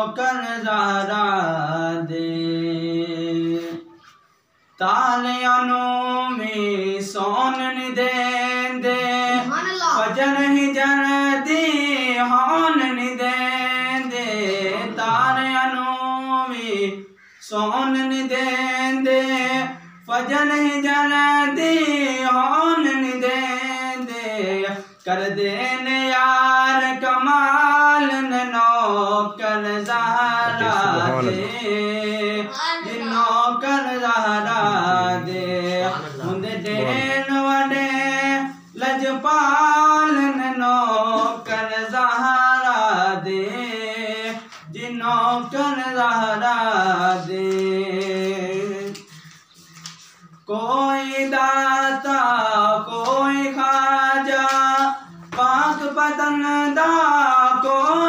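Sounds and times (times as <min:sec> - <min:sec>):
man singing unaccompanied: 0:00.0 - 0:04.0, 0:04.8 - 0:58.0.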